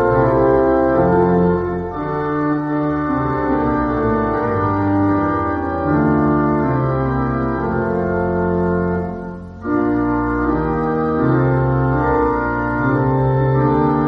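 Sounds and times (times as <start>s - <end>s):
organ playing hymn chords: 0.0s - 14.0s.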